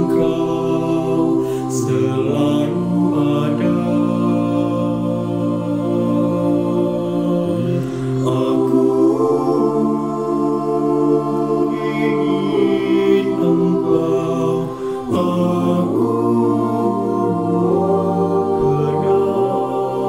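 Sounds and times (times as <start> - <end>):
men singing in close harmony: 0.0 - 20.0.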